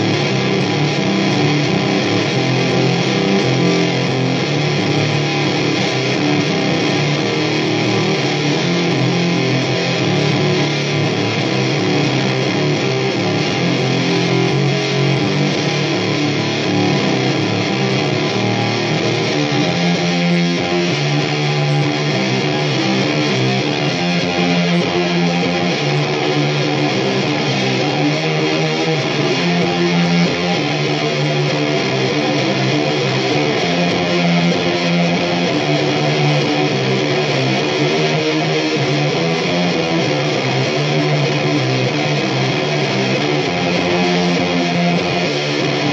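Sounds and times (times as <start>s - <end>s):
distorted electric guitar riff: 0.0s - 45.9s.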